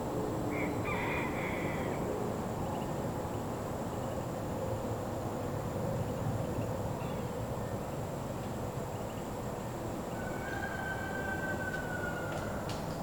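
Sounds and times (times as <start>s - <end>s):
high insect drone: 0.0s - 13.0s
wind through woods: 0.0s - 13.0s.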